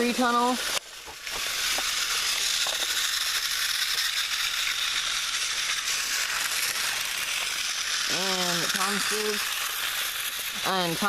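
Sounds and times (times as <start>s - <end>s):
toy trains rattling whir: 0.0s - 11.0s.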